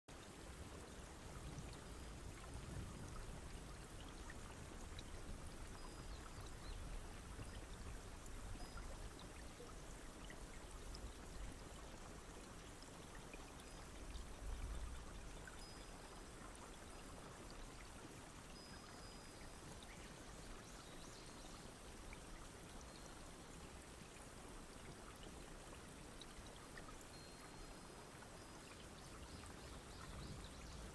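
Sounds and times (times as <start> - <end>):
steady rain hiss: 0.1 - 30.9.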